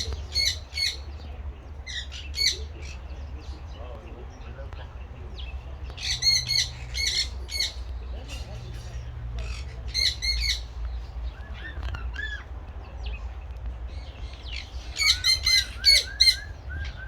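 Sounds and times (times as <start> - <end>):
birds squawking: 0.0 - 17.0.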